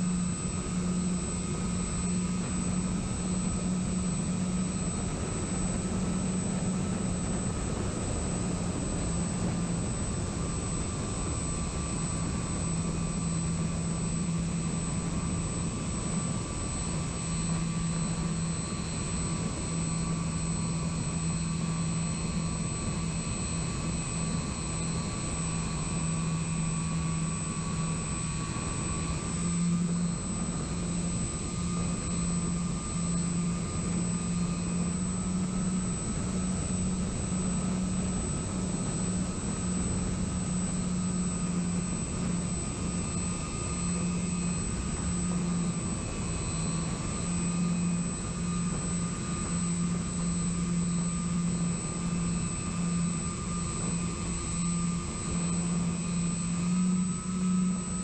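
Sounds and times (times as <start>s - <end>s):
electric motor and propeller droning: 0.0s - 58.0s.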